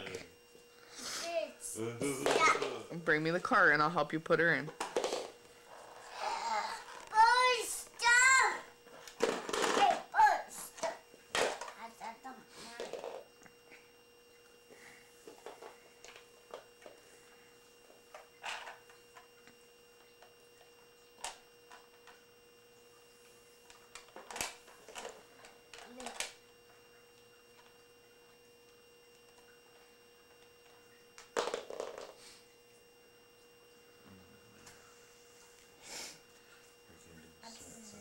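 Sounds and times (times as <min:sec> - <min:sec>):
faint hum: 0:00.0 - 0:38.0.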